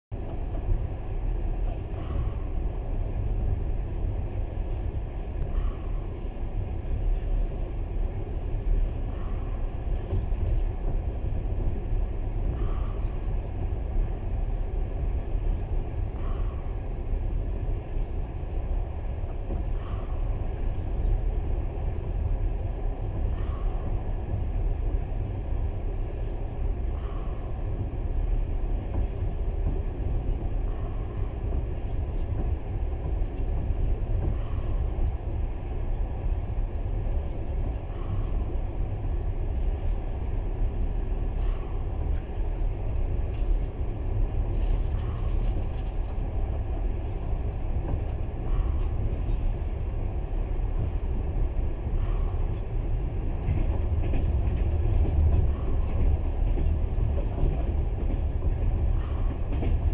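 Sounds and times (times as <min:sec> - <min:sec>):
train rumble inside carriage: 0:00.0 - 0:59.9.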